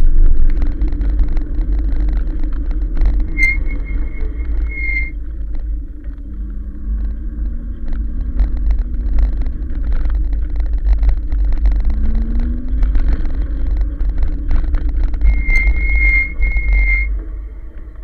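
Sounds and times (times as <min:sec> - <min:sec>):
bike rolling on tarmac: 0:00.0 - 0:18.0
faint low whine: 0:00.0 - 0:18.0
wind buffeting microphone: 0:00.0 - 0:18.0.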